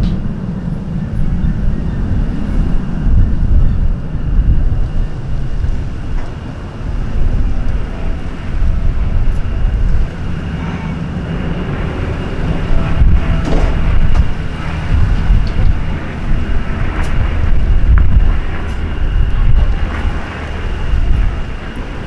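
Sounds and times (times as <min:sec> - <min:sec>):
aircraft engine rumble: 0:00.0 - 0:22.0
wind buffeting the microphone: 0:00.0 - 0:22.0.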